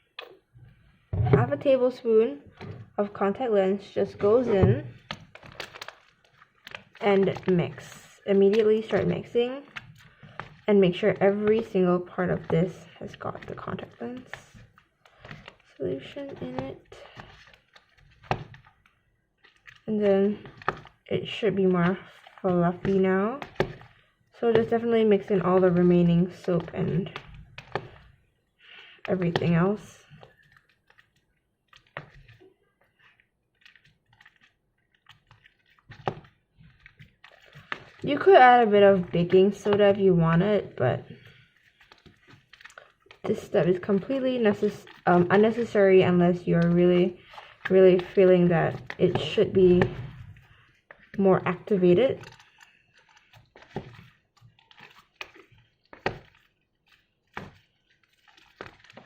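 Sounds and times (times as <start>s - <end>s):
slime squishing: 0.0s - 59.0s.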